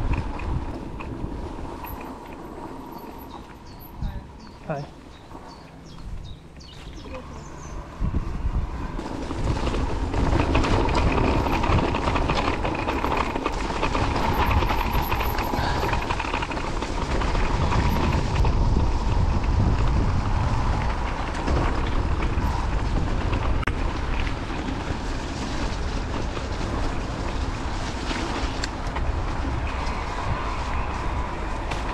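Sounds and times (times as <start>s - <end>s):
bike rattling and clicking: 0.0s - 31.9s
tyres rumbling on rough trail: 0.0s - 31.9s.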